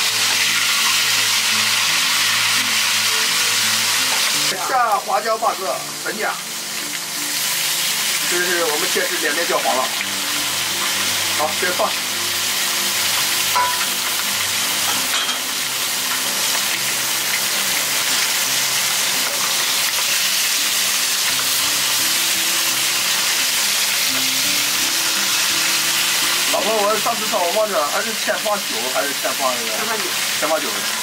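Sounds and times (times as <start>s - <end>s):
fish frying: 0.0s - 31.0s
vegetables sizzling in hot oil: 0.0s - 31.0s.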